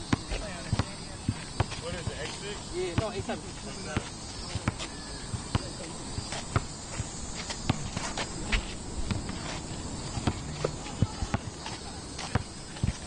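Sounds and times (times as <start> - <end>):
basketball bouncing on asphalt: 0.0 - 2.3, 2.9 - 13.0
sneaker footsteps: 0.1 - 13.0.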